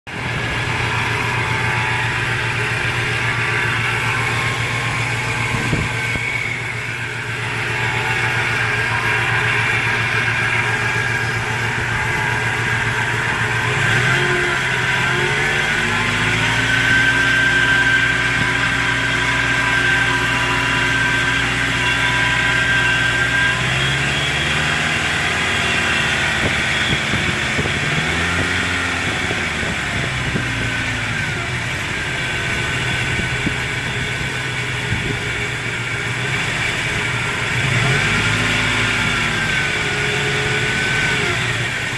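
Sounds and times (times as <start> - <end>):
engine idling and revving: 0.0 - 41.9
high-pitched whine: 0.1 - 41.9.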